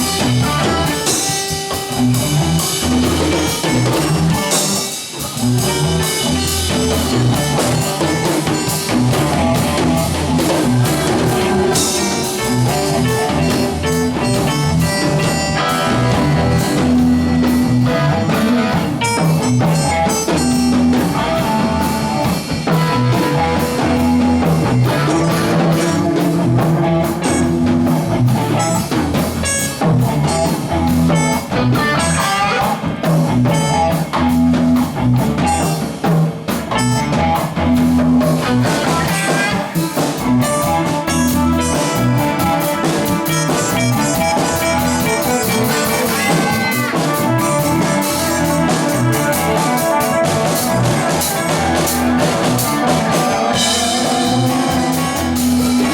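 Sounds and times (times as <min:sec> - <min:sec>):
bass guitar: 0:00.0 - 0:55.9
drum kit beat: 0:00.0 - 0:55.9
guitars: 0:00.0 - 0:55.9.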